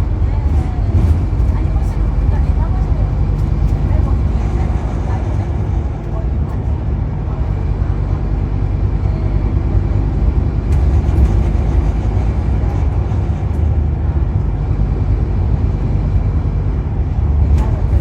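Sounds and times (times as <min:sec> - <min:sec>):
bus diesel engine drone: 0:00.0 - 0:18.0.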